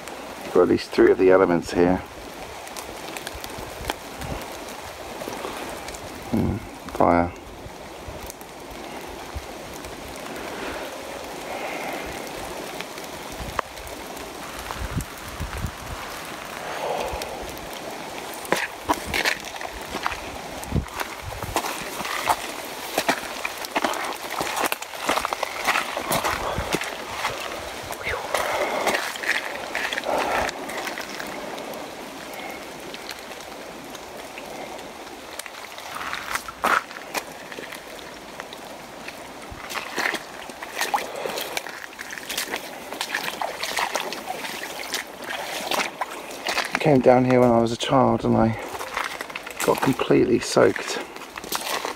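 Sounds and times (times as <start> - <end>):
rushing water: 0.0 - 51.9
stream trickling: 0.0 - 51.9.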